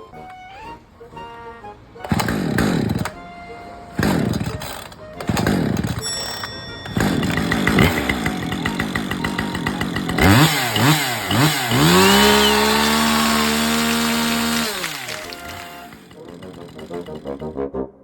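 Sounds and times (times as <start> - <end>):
chainsaw idling and revving: 2.1 - 3.2, 4.0 - 17.4.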